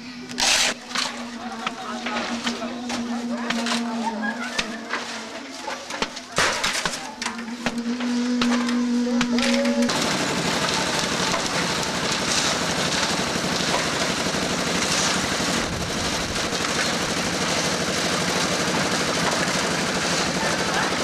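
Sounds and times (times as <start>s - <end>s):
construction machinery engine: 0.0s - 21.0s.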